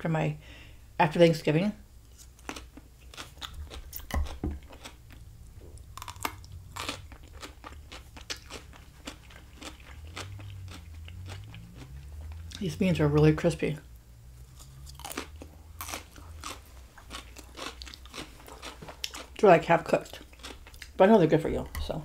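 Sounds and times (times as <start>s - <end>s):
person crunching vegetables: 2.1s - 12.7s, 14.4s - 22.0s.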